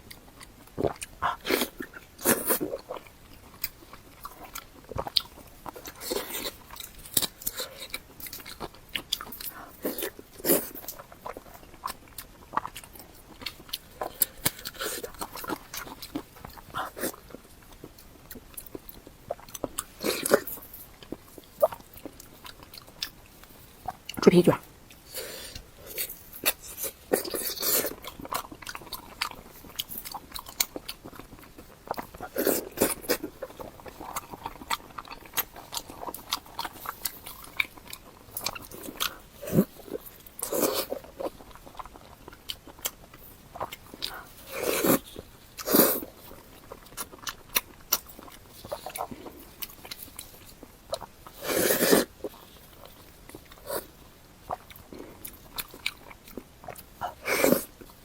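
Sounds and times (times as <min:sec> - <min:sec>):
wet mouth clicks chewing: 0:00.0 - 0:58.0.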